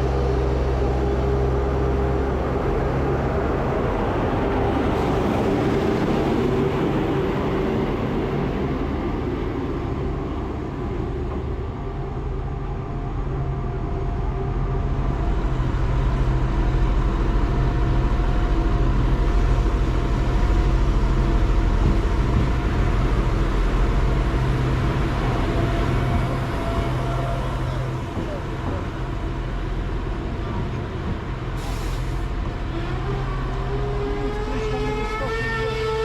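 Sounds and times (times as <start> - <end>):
train rumbling and humming: 0.0 - 36.0.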